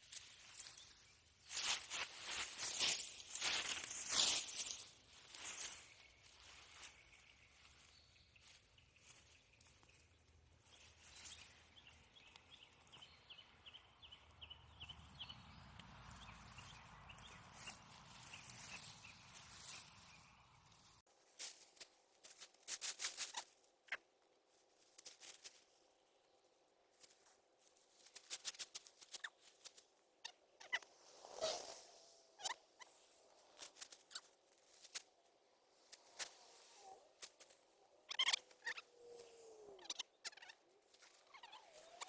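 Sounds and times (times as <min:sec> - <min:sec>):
rustling of plant foliage: 0:00.0 - 0:42.0.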